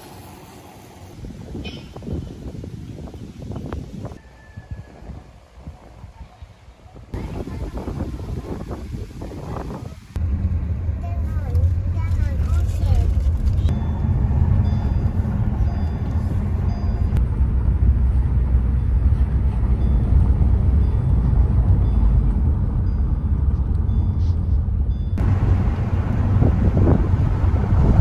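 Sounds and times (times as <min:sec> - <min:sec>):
wind and road noise in car: 0:00.0 - 0:28.0.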